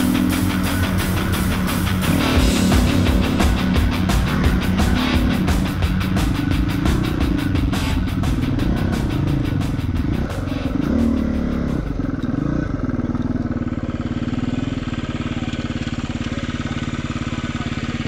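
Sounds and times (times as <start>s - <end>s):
dirt bike engine revving and idling: 0.0s - 18.0s.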